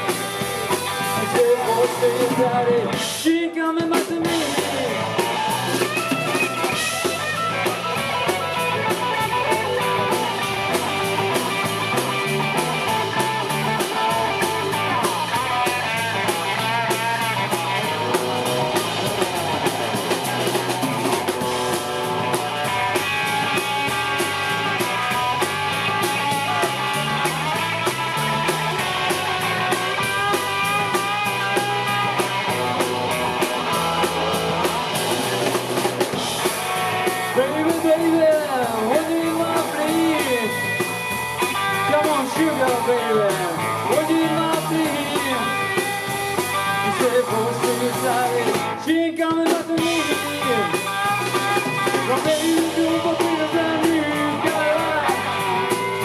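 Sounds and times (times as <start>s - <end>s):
bass line: 0.0s - 56.0s
drums: 0.0s - 56.0s
lead electric guitar: 0.0s - 56.0s.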